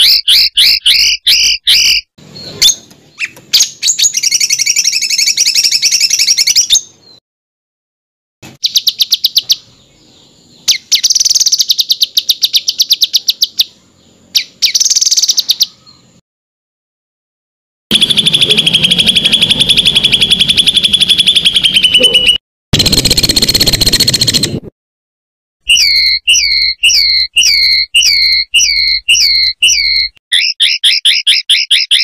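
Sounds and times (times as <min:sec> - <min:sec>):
songbird rapid repeated notes: 0:00.0 - 0:06.9, 0:08.5 - 0:09.8, 0:10.6 - 0:15.7, 0:17.9 - 0:24.7, 0:25.7 - 0:32.0.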